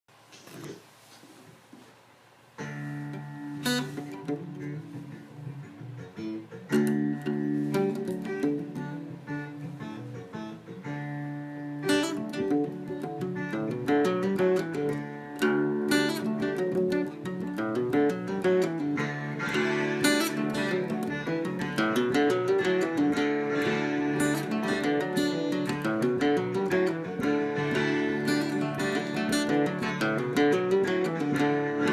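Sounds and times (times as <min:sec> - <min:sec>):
plucked and strummed guitar music: 0:02.6 - 0:31.9.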